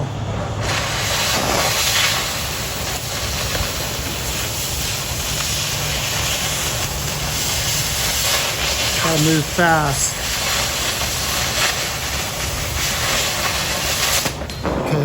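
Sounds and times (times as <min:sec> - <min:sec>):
cutting torch hissing: 0:00.2 - 0:15.0.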